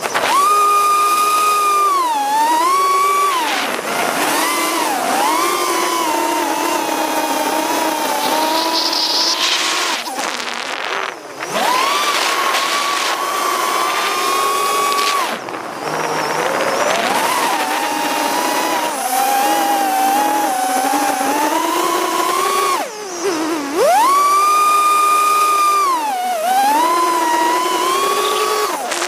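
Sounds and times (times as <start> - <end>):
small drone motors whining: 0.0 - 29.0.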